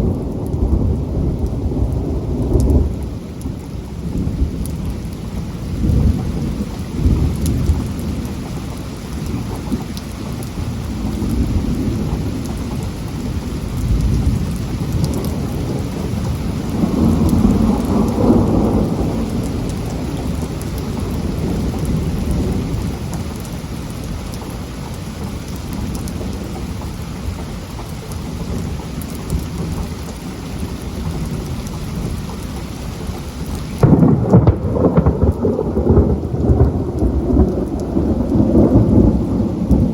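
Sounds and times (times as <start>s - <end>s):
rolling thunder: 0.0s - 27.4s, 28.0s - 39.9s
heavy rain: 0.0s - 39.9s.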